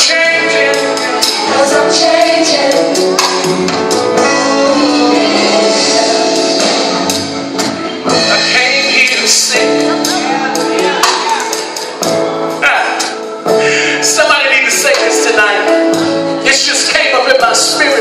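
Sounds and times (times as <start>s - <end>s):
gospel song with band: 0.0s - 18.0s.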